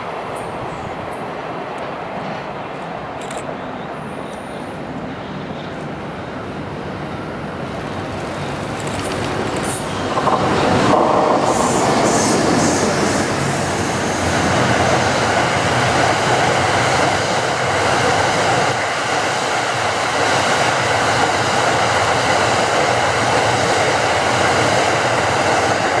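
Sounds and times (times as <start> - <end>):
train wheels rolling on rail: 0.0 - 26.0
clickety-clack of rail joints: 0.3 - 6.0, 7.8 - 26.0.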